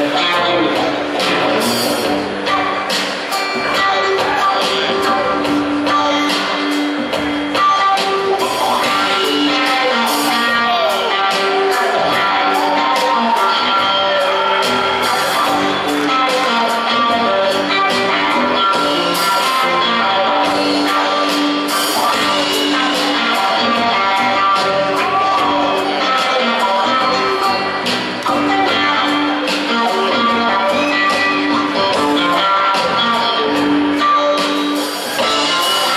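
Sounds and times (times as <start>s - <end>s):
upright bass: 0.0s - 34.2s
drum kit steady beat: 0.0s - 35.9s
electric guitar: 0.0s - 35.9s.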